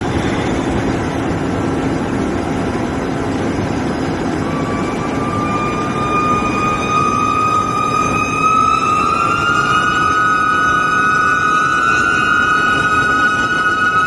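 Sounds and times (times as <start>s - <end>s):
high whine rising in pitch: 0.0s - 14.0s
machine noise: 0.0s - 14.0s.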